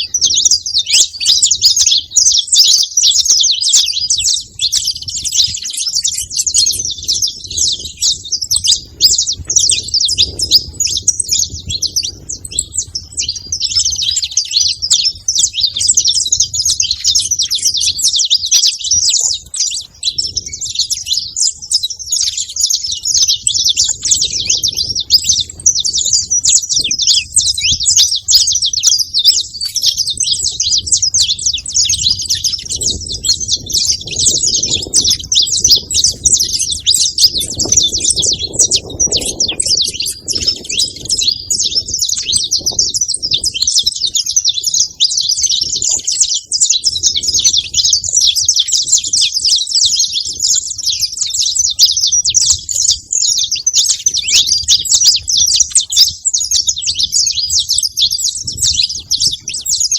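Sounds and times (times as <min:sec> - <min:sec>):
finch chirping and trilling: 0:00.0 - 0:59.9.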